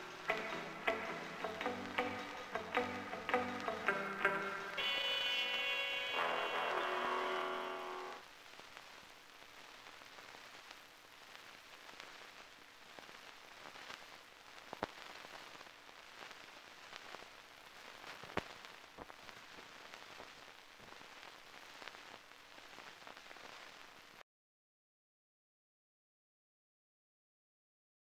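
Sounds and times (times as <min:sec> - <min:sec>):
film soundtrack hiss and crackle: 0:00.0 - 0:24.2.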